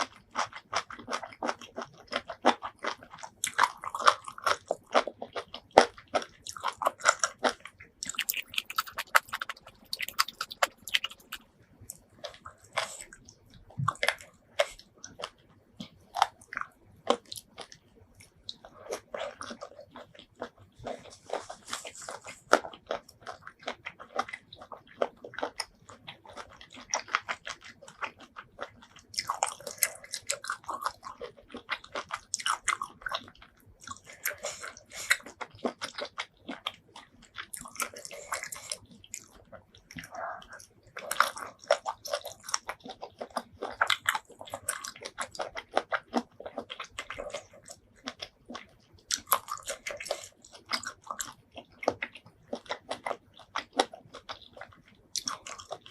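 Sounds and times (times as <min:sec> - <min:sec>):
wet chewing and biting: 0:00.0 - 0:55.9.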